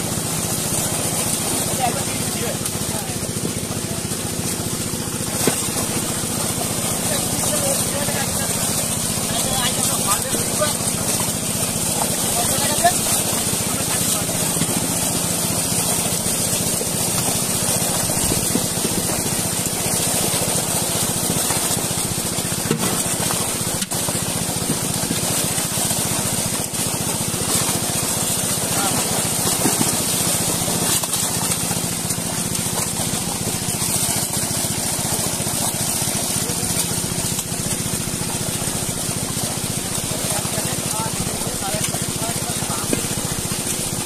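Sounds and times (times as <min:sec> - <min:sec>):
fish splashing in shallow water: 0:00.0 - 0:44.0
low motor hum: 0:00.0 - 0:44.0.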